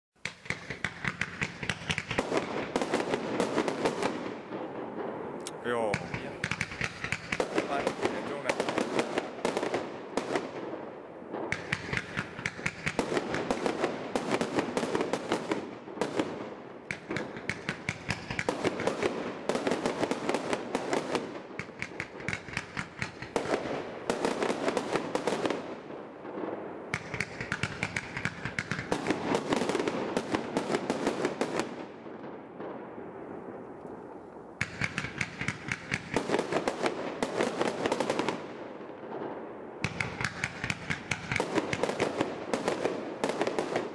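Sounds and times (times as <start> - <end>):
fireworks launches and bursts: 0.2 - 43.9.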